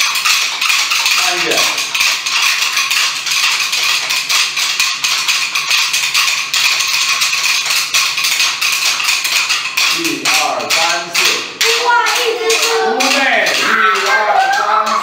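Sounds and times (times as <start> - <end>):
children shaking percussion instruments: 0.0 - 15.0.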